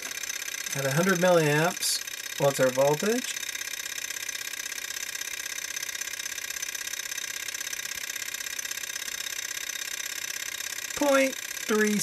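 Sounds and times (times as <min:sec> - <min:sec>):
engine mechanical clatter: 0:00.0 - 0:12.0.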